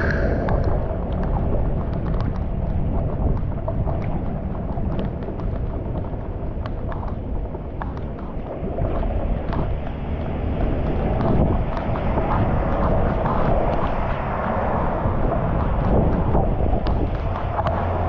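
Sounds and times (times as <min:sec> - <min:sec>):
sharp ticks: 0:00.0 - 0:18.0.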